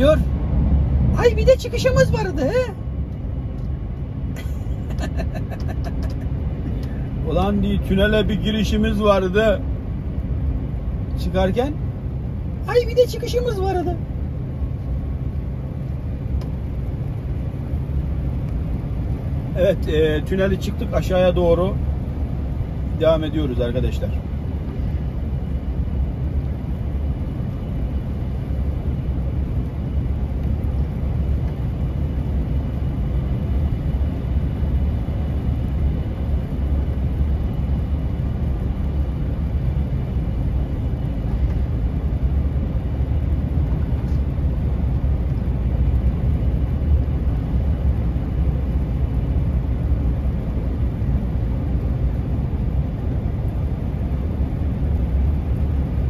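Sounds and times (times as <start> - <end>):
lorry engine and road drone: 0.0 - 56.0.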